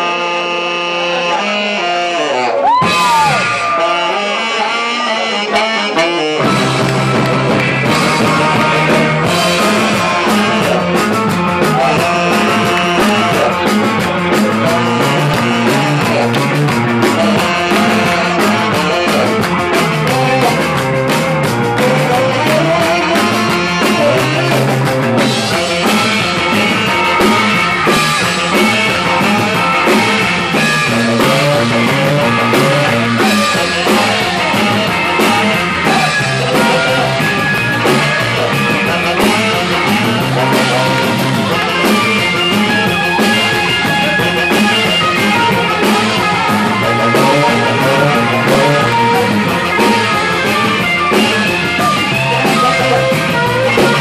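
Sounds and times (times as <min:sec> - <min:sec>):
electric bass: 0:00.0 - 0:54.0
electric guitar: 0:00.0 - 0:54.0
saxophone: 0:00.0 - 0:54.0
drum kit beat: 0:02.6 - 0:54.0.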